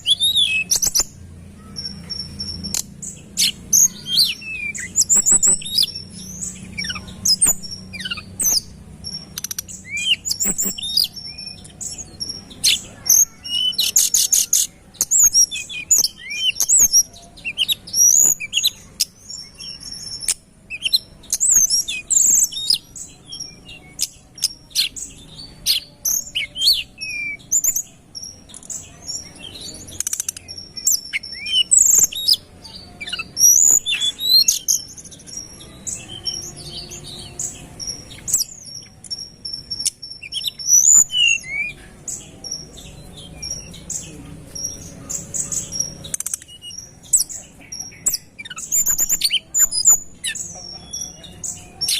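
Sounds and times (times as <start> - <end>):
songbird chirping and whistling: 0.0 - 27.9, 28.5 - 51.9
bird trill: 0.0 - 51.9.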